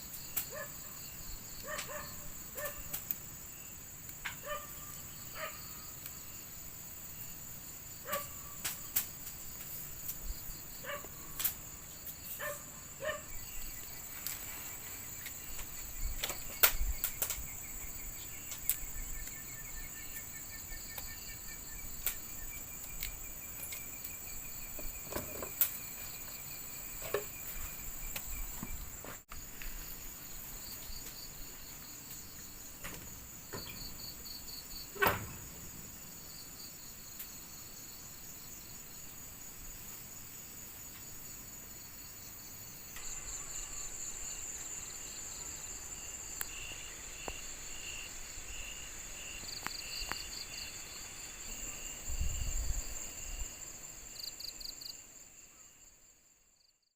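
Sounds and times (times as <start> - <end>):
insect chirring: 0.0 - 56.9.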